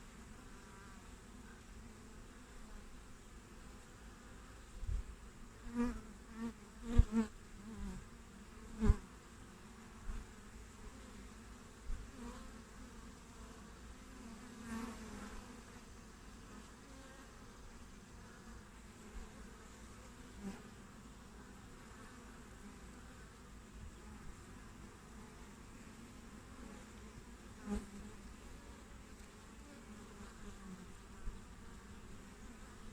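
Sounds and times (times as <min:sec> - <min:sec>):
honeybees buzzing: 0:00.0 - 0:32.9.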